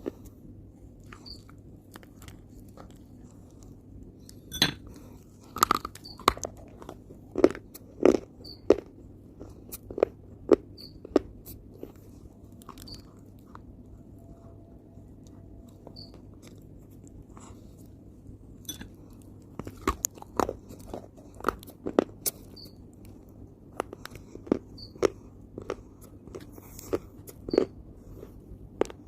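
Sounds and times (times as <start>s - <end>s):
chewing crunches: 0.0s - 29.0s.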